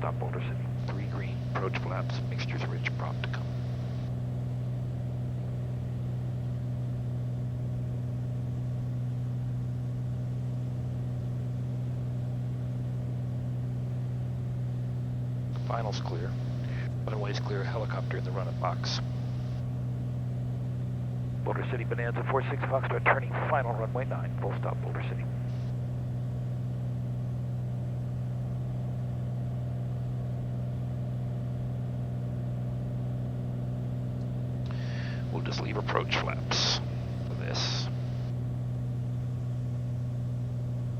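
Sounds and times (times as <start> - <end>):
plane engine and propeller droning: 0.0 - 40.9.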